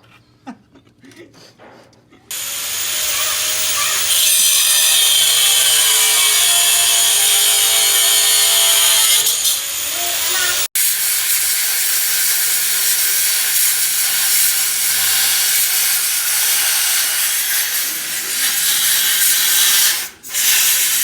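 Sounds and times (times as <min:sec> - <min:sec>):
welder hissing: 0:02.3 - 0:21.0.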